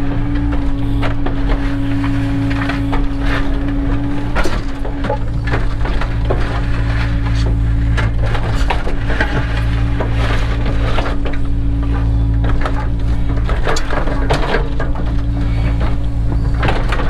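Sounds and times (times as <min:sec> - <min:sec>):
crunching and knocking of material: 0:00.0 - 0:17.0
excavator diesel engine running: 0:00.0 - 0:17.0.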